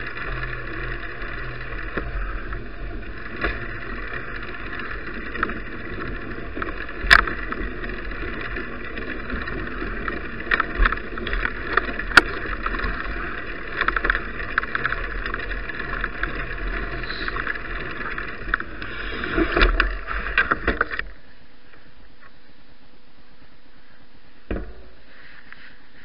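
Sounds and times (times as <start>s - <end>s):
bicycle knocks and rattles: 0.0s - 21.2s, 24.5s - 25.5s
bicycle tyres and wind rushing: 0.0s - 22.6s
low steady hiss: 0.0s - 26.0s.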